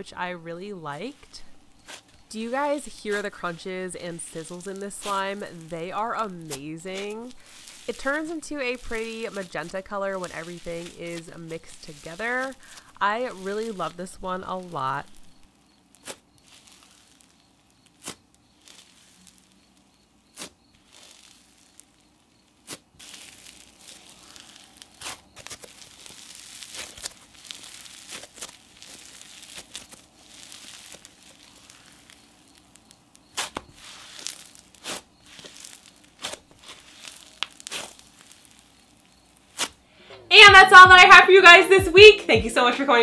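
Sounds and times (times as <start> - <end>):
slime crunching and crackling: 0.9 - 39.9.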